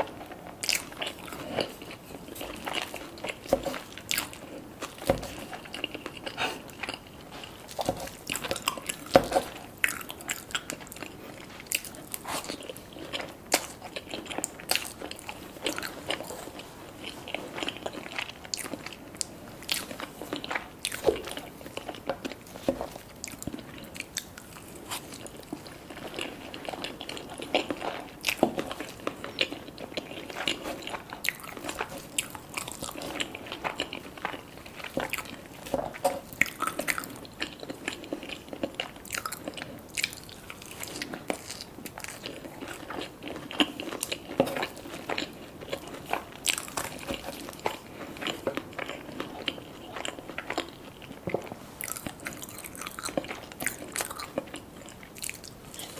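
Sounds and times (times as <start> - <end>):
person crunching and chewing: 0.0 - 55.9.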